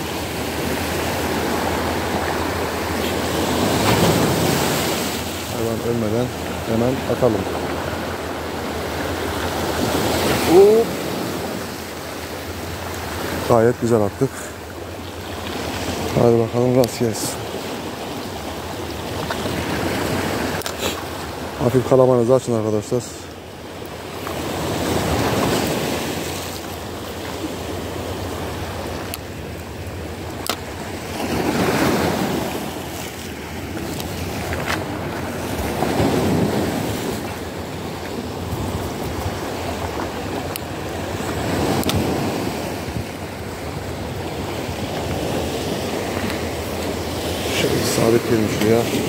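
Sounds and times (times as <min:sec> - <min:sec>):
sea waves breaking on shore: 0:00.0 - 0:49.0.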